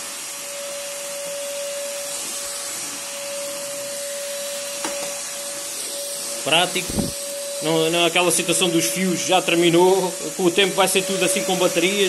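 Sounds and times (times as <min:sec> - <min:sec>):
stick vacuum running: 0:00.5 - 0:12.0.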